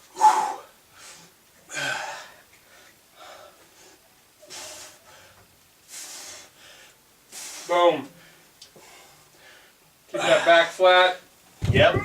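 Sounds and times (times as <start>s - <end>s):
man breathing out hard: 0.1s - 9.8s.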